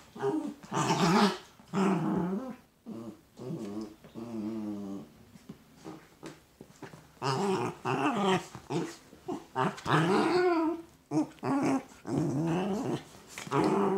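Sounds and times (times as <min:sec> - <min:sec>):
small dogs growling: 0:00.0 - 0:05.2, 0:07.2 - 0:13.9.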